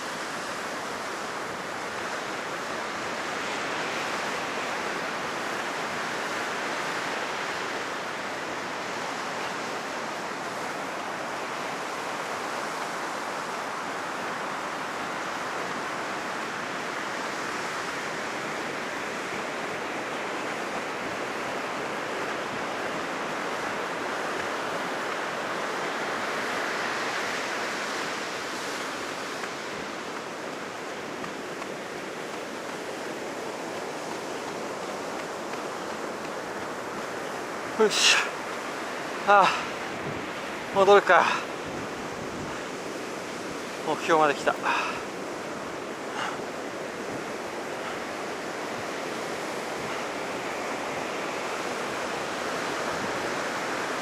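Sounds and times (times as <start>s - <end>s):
heavy surf on a sandy beach: 0.0s - 54.0s.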